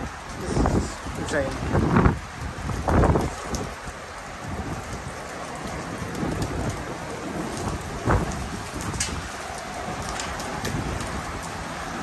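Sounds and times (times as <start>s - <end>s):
low thunder rumble: 0.0s - 12.0s
steady rain: 0.0s - 12.0s.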